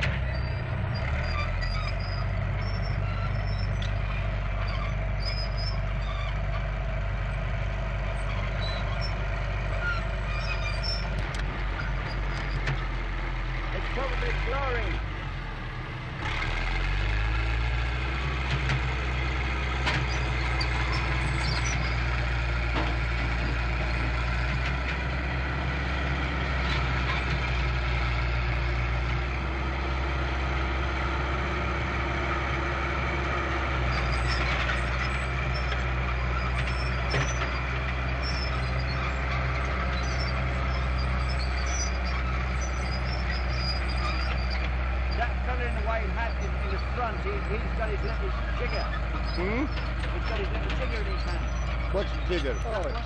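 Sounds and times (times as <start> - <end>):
low mechanical drone: 0.0 - 53.0.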